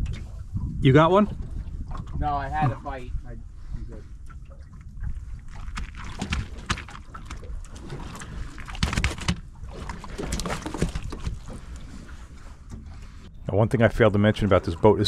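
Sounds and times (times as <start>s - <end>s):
water splashing against boat hull: 0.0s - 3.0s, 3.9s - 13.3s.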